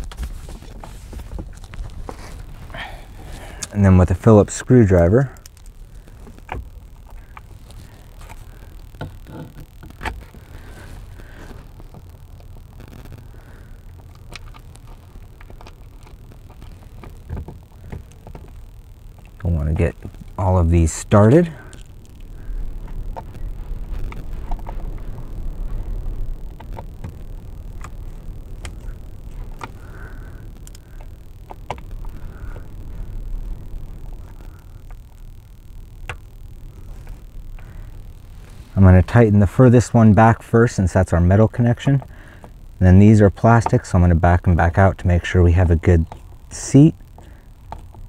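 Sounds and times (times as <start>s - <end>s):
low steady rumble: 0.0s - 48.0s.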